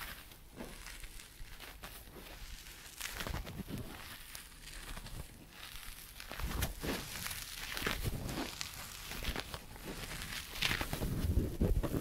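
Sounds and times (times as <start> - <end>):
sponge squeezed scratchy rustles: 0.0 - 12.0.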